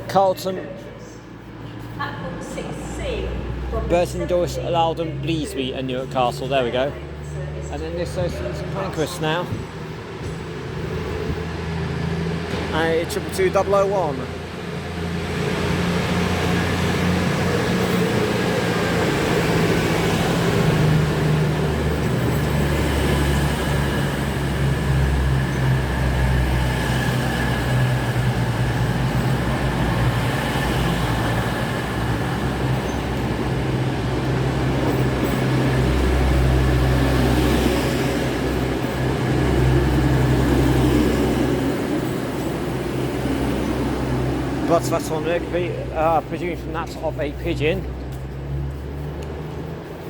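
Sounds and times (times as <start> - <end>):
train diesel engines droning: 0.0 - 50.0.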